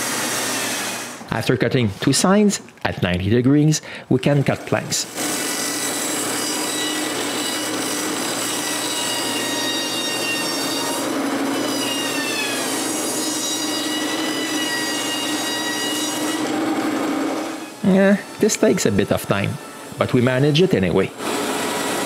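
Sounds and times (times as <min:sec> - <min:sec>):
powered saw whining: 0:00.0 - 0:01.3, 0:05.1 - 0:22.0.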